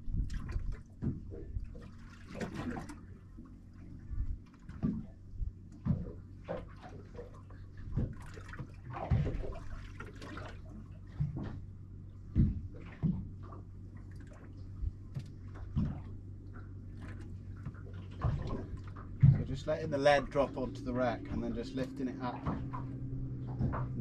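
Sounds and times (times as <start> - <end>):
steady low hum: 0.0 - 24.0
water lapping against boat hull: 0.0 - 24.0.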